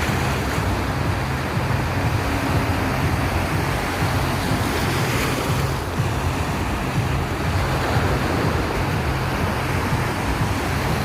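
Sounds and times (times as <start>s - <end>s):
ocean surf washing onto beach: 0.0s - 11.0s.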